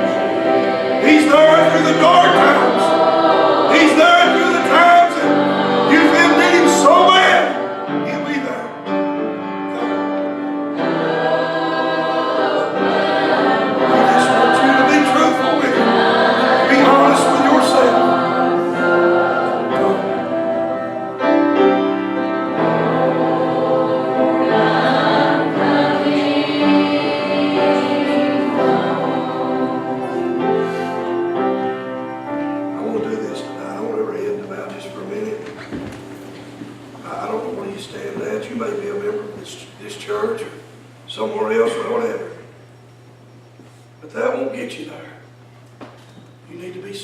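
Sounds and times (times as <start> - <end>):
instrumental accompaniment: 0.0 - 38.4
choir singing a hymn: 0.0 - 45.4.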